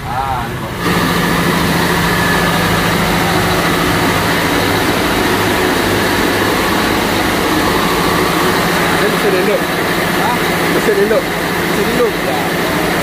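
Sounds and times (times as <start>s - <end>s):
marine diesel engines droning: 0.0s - 13.0s.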